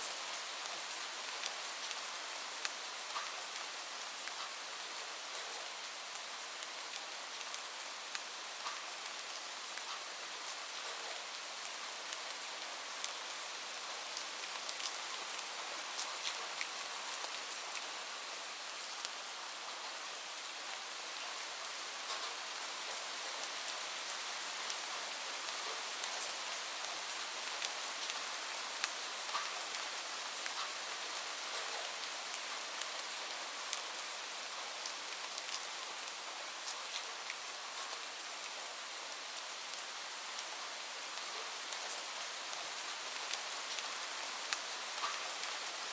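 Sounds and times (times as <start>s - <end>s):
steady rain hiss: 0.0s - 45.9s.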